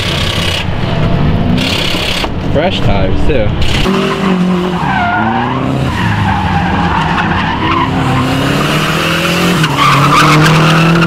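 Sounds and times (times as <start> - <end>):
car engine revving: 0.0 - 2.8, 3.4 - 11.0.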